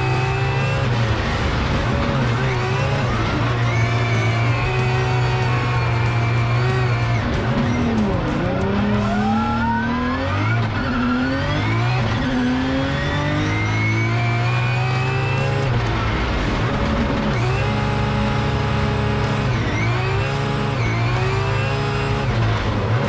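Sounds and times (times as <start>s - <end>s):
car engines revving hard: 0.0s - 23.0s.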